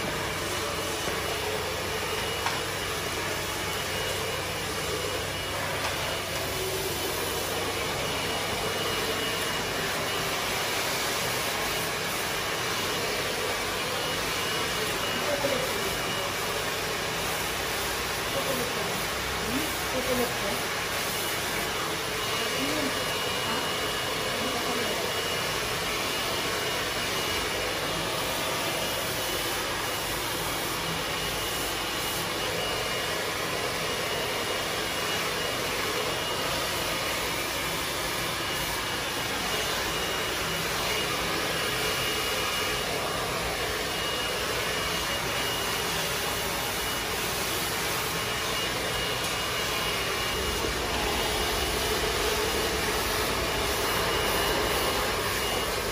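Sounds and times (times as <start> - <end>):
hair dryer blowing: 0.0 - 55.9.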